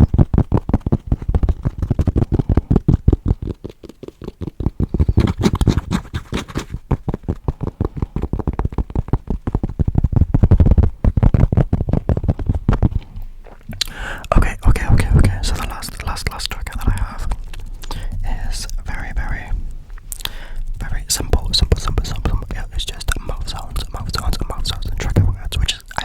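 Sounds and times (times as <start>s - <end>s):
scratching and tapping on microphone: 0.0s - 26.0s.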